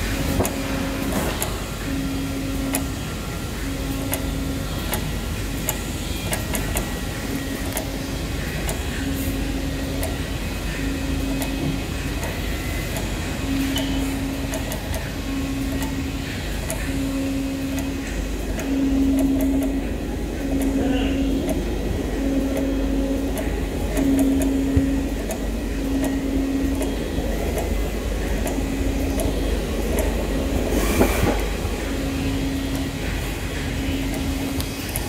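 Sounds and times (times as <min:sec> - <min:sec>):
cutting machine humming: 0:00.0 - 0:35.0.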